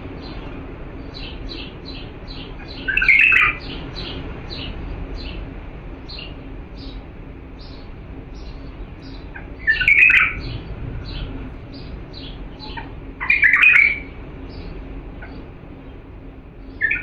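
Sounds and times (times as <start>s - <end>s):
bird warbled song phrases: 0.0s - 17.0s.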